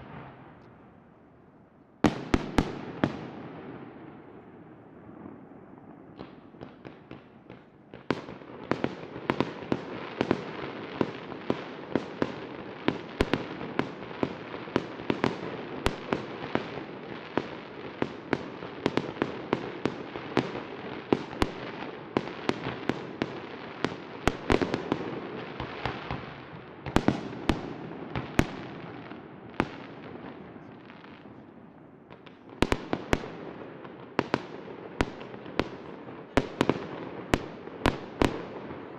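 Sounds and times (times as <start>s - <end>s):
fireworks bangs and cracks: 2.0s - 4.1s, 5.0s - 38.9s.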